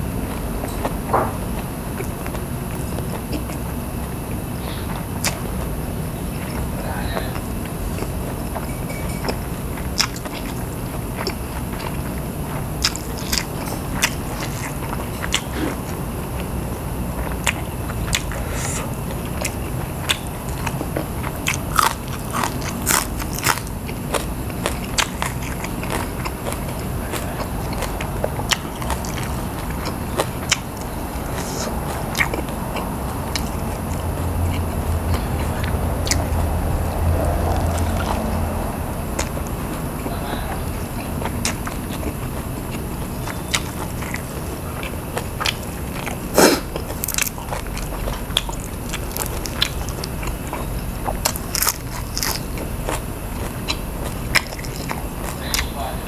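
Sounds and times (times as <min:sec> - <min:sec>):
person chewing crunchy food: 0:00.0 - 0:56.0
steady low hum: 0:00.0 - 0:56.0.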